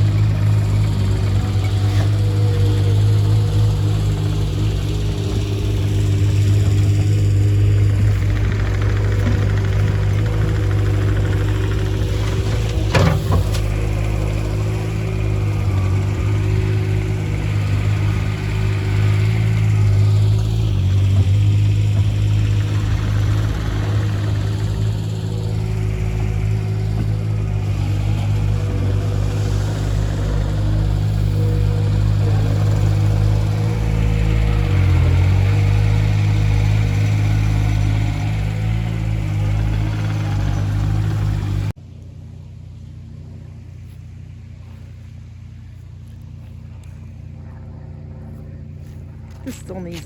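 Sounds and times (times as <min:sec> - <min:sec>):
heavy machine engine running: 0:00.0 - 0:50.0.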